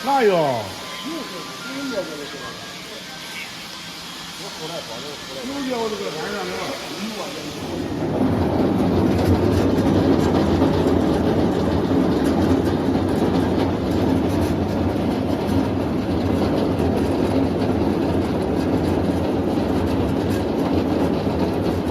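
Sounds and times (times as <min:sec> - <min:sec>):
grinding mill running with clicks: 0:00.0 - 0:21.9.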